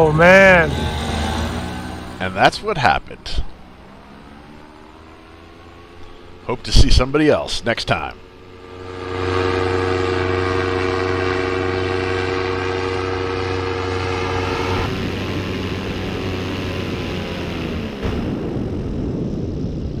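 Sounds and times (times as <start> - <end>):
paramotor engine droning: 0.0 - 20.0.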